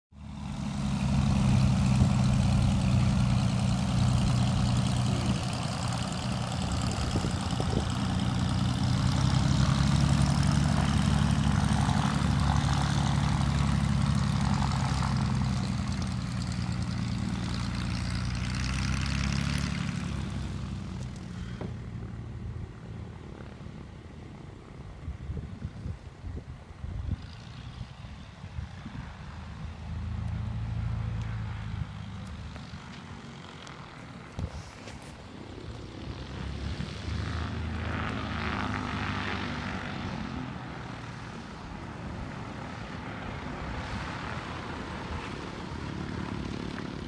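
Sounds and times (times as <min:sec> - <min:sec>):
propeller aircraft engines droning: 0:00.1 - 0:47.0.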